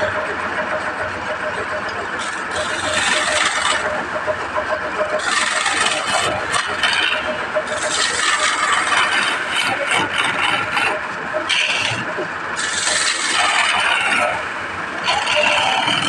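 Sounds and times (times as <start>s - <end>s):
turning tool scraping wood: 0.0s - 16.0s
wood lathe running: 0.0s - 16.0s.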